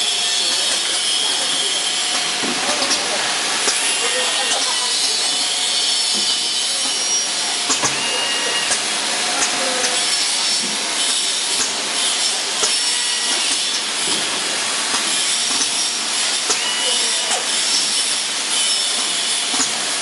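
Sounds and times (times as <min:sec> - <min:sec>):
filling machine hissing: 0:00.0 - 0:20.0.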